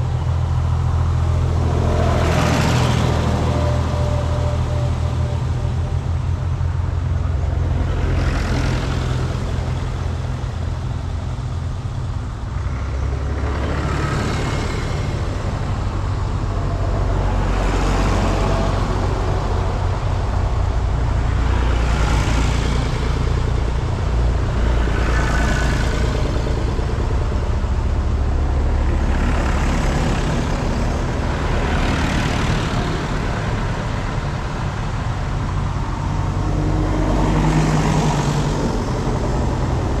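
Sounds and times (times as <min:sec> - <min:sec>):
tractor engines chugging: 0:00.0 - 0:40.0.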